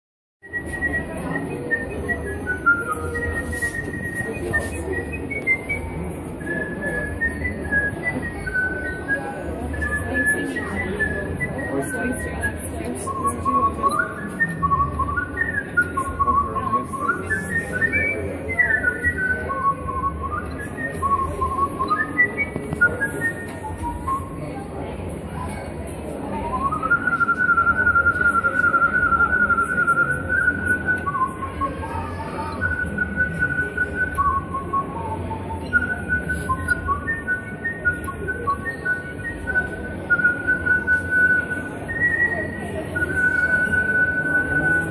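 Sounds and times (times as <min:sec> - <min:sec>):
whistled melody: 0:00.4 - 0:24.6, 0:26.2 - 0:44.9.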